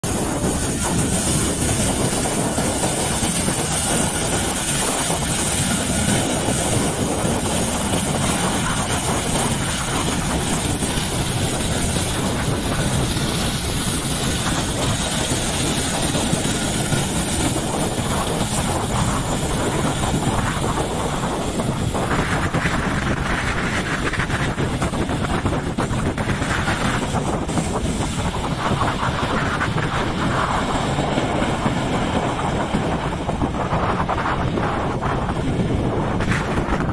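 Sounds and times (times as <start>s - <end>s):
helicopter rotors and turbines: 0.0s - 36.9s.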